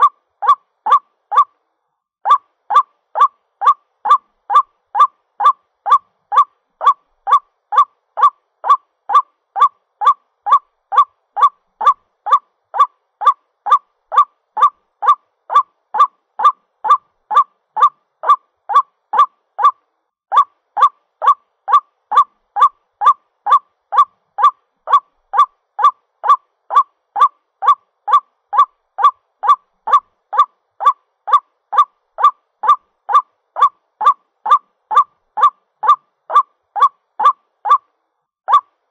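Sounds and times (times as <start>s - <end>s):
waterhen calling: 0.0s - 1.5s, 2.3s - 19.8s, 20.4s - 37.8s.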